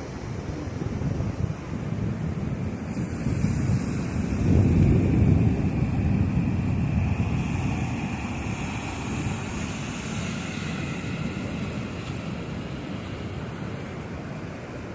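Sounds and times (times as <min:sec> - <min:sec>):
steady surf: 0:00.0 - 0:14.9
wind rushing over microphone: 0:00.0 - 0:14.9.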